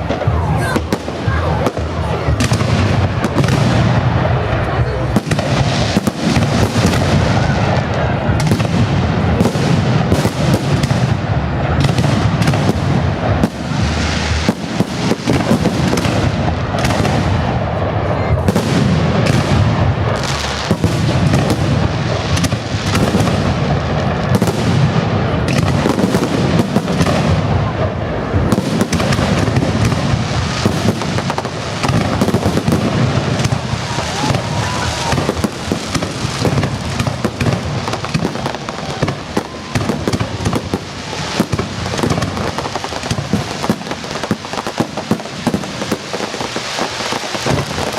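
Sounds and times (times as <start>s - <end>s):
fireworks bursts and crackles: 0.0s - 47.9s.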